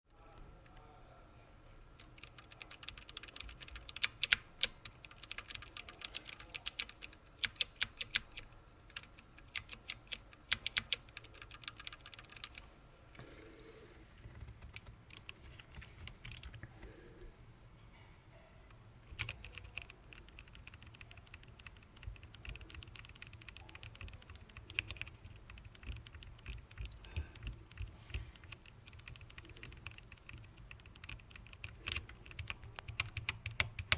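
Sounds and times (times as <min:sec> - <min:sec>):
keyboard keycaps clicking and rattling: 0:02.0 - 0:12.6, 0:14.2 - 0:16.7, 0:18.7 - 0:33.9.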